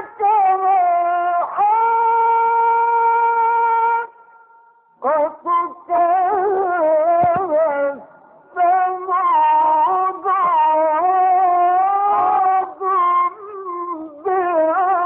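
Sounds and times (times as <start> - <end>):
person chanting melismatic recitation: 0.0 - 4.3, 5.0 - 15.0.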